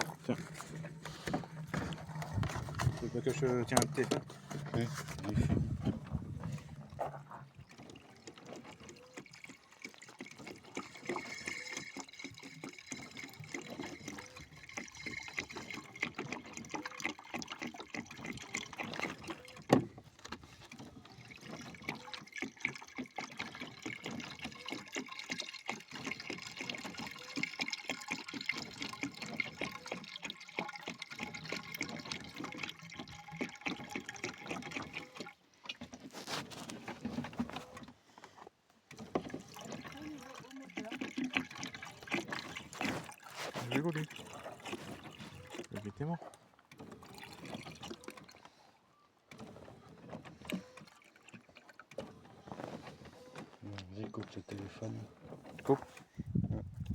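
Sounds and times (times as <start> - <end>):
coolant gurgling and bubbling: 0.0 - 56.9.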